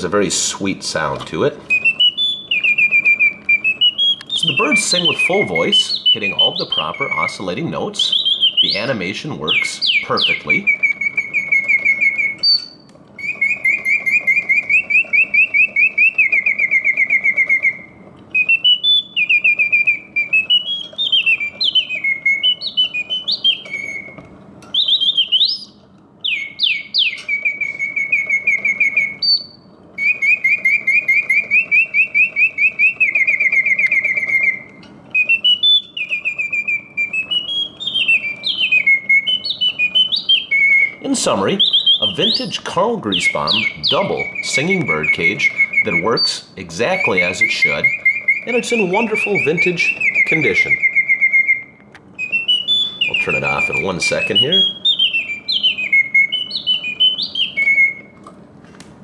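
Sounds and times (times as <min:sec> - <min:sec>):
mechanical bird whistling trills: 0:00.0 - 0:58.2
faint mechanism whir: 0:00.0 - 0:59.0.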